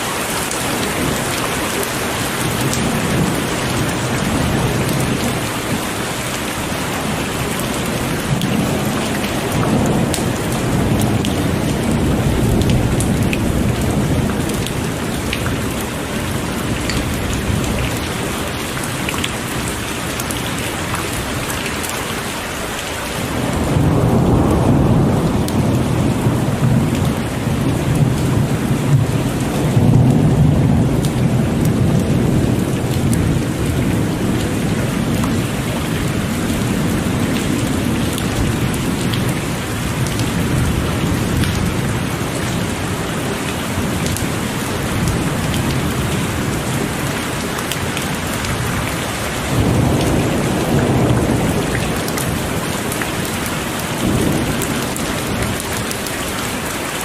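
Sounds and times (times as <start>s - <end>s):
heavy rain pouring: 0.0s - 57.0s
low rumble of thunder: 0.7s - 21.8s, 22.7s - 56.0s.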